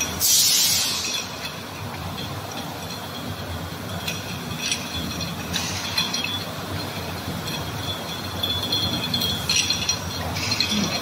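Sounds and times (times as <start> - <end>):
bottles clinking and rattling: 0.0 - 11.0
conveyor mechanical hum: 0.0 - 11.0.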